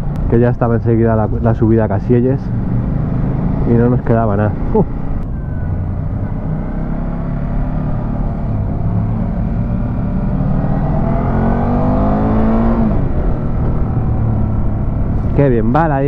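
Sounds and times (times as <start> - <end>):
wind and road rumble: 0.0 - 16.0
motorcycle engine revving: 1.2 - 16.0.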